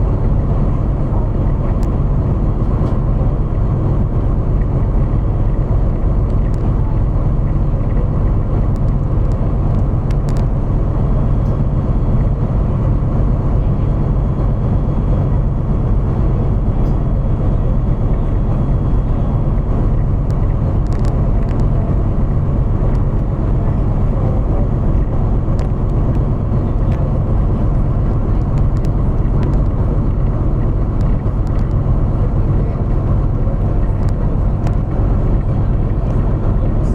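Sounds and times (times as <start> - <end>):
vehicle engine and road rumble: 0.0 - 36.9.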